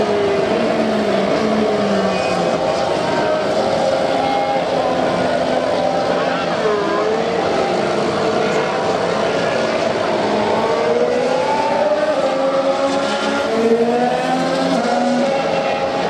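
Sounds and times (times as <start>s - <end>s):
racing car engines passing: 0.0s - 16.0s.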